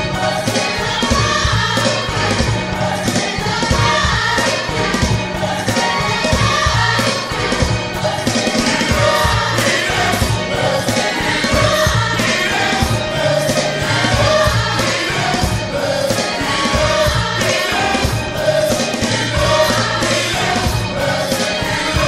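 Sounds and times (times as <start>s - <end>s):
gospel choir singing: 0.0s - 22.0s
music with steady beat: 0.0s - 22.0s.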